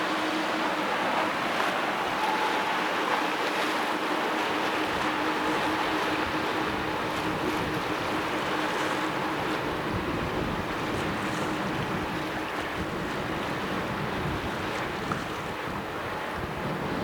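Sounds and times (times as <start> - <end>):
ferry engine hum: 0.0 - 17.0
water noise: 0.0 - 17.0
wind: 0.0 - 17.0.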